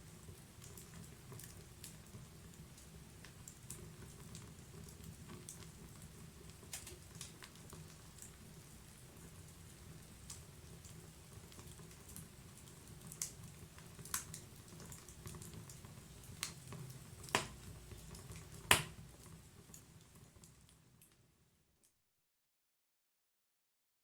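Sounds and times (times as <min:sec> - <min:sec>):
wood crackling and popping: 0:00.3 - 0:20.2.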